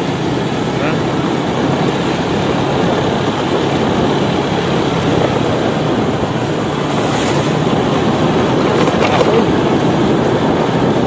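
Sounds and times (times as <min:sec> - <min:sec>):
motorcycle engine hum: 0:00.0 - 0:11.0
road rumble: 0:00.0 - 0:11.0
wind noise: 0:00.0 - 0:11.0.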